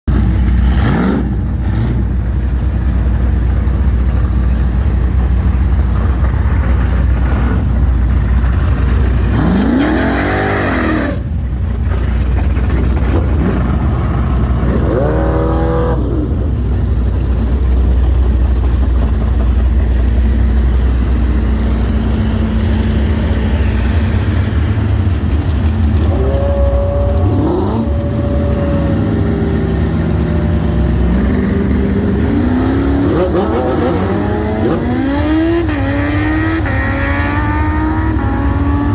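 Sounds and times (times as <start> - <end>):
racing car engines revving: 0.1 - 38.9.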